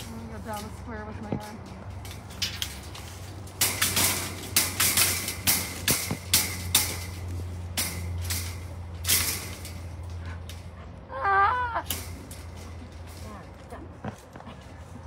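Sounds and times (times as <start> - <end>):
metal cage clanking and rattling: 0.0 - 11.0, 11.7 - 14.8
low steady hum: 0.0 - 15.0.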